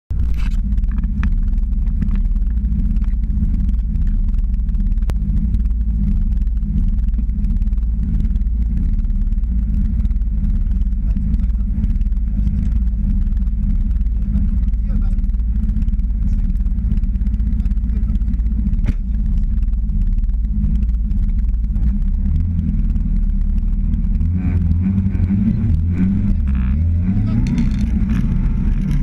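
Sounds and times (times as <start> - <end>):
car engine idling: 0.1 - 29.0.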